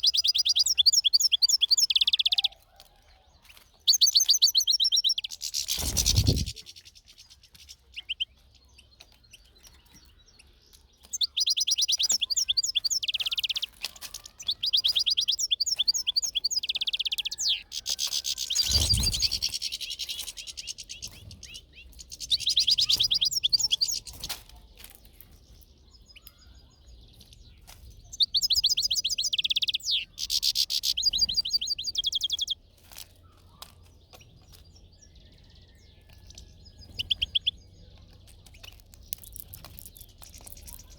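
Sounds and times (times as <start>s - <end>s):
goldfinch singing: 0.0s - 2.6s, 3.8s - 24.4s, 25.4s - 32.7s, 33.6s - 40.9s.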